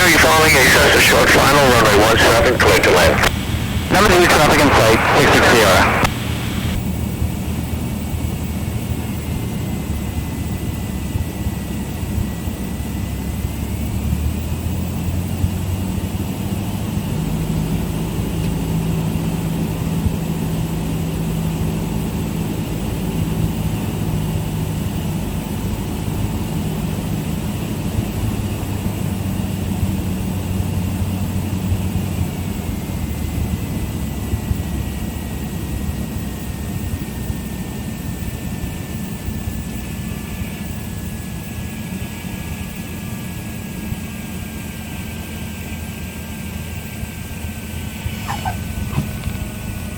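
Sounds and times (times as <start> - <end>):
light aircraft engine and propeller: 0.0 - 49.9.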